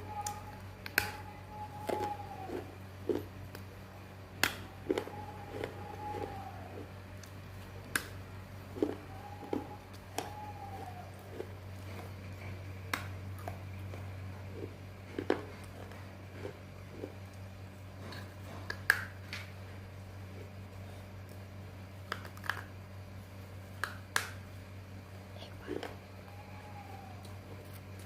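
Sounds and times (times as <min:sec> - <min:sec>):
steady low hum: 0:00.0 - 0:28.0
crunchy chewing: 0:00.1 - 0:24.4.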